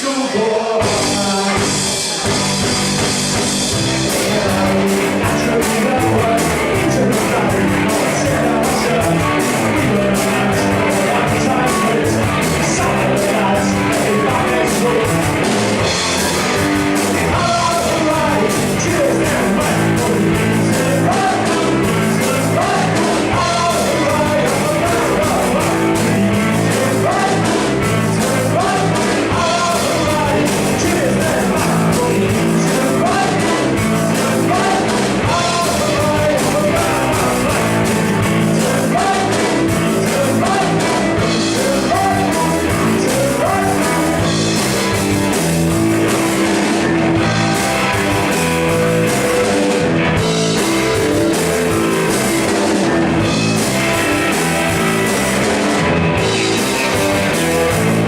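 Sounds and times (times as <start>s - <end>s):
person singing lead vocal: 0.0s - 2.4s, 3.7s - 58.0s
bass guitar: 0.0s - 58.0s
distorted electric guitars: 0.0s - 58.0s
drum kit: 0.0s - 58.0s.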